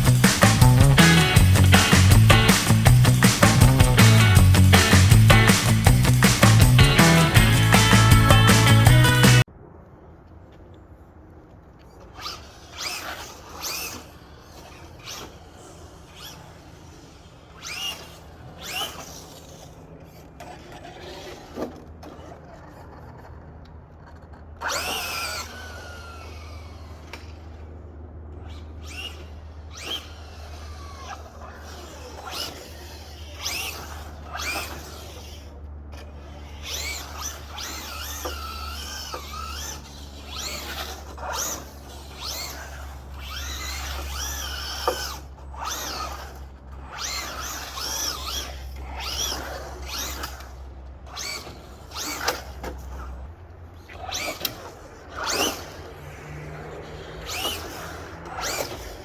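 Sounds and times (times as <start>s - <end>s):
toy truck motor whining: 0.0s - 9.5s, 11.8s - 59.0s.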